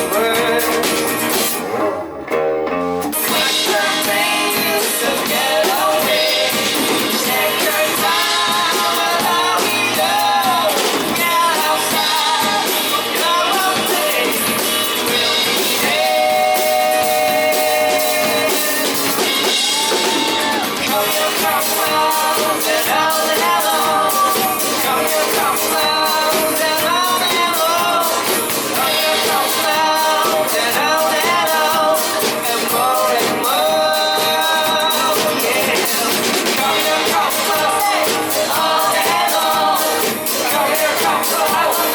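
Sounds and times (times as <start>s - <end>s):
person singing: 0.0s - 1.4s, 3.1s - 41.9s
acoustic guitar: 0.0s - 41.9s
drums: 0.0s - 41.9s.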